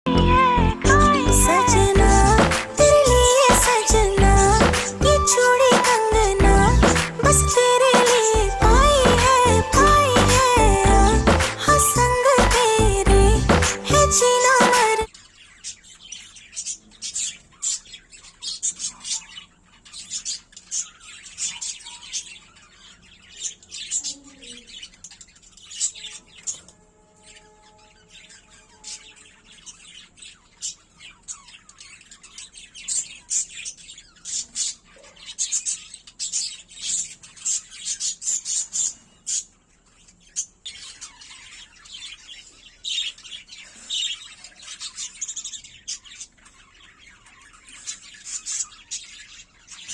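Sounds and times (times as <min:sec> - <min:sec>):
lovebirds chirping and squawking: 0:00.1 - 0:49.9.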